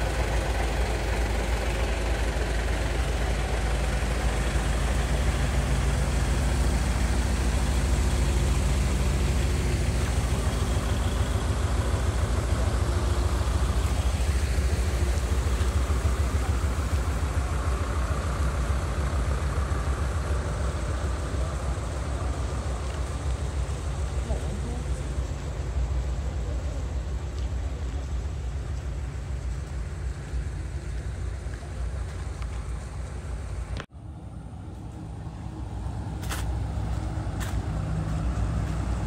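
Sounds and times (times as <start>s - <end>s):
diesel truck engine idling: 0.0s - 39.0s.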